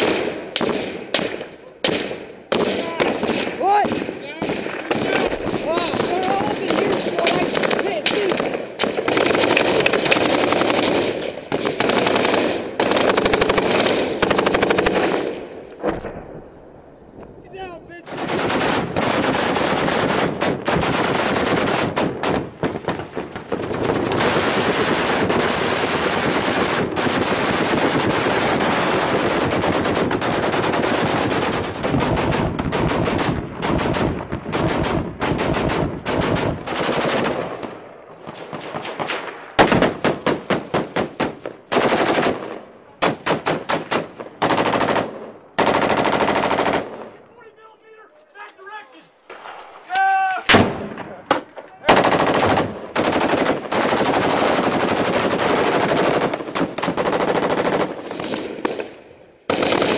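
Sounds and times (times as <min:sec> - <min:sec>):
automatic gunfire: 0:00.0 - 0:16.1, 0:18.0 - 0:47.2, 0:50.5 - 0:59.9.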